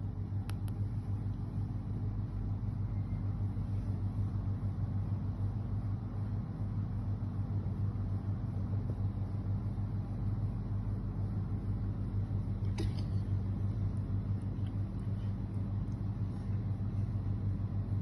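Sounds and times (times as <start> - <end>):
low hum with rumble: 0.0 - 18.0.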